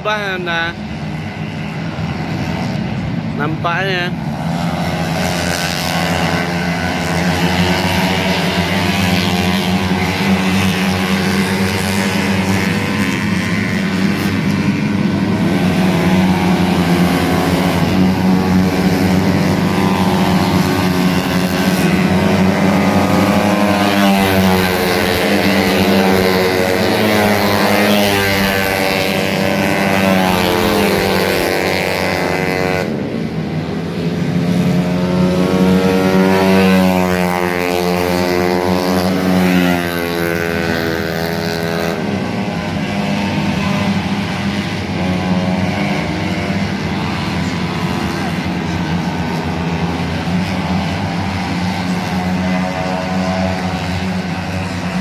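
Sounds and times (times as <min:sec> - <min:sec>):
scooter engine revving: 0:03.4 - 0:55.0.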